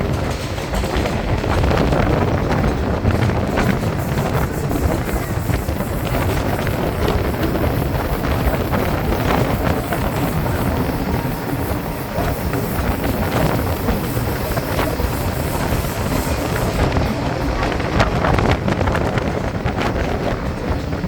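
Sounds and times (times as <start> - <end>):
train rumbling: 0.0 - 21.0
wind buffeting microphone: 0.0 - 21.0.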